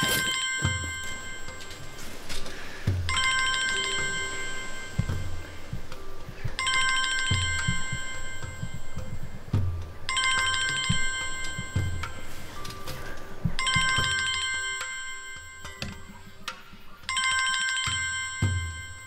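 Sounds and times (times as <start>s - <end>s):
mobile phone ringing: 0.0s - 2.5s, 3.1s - 9.5s, 10.1s - 16.5s, 17.1s - 19.0s.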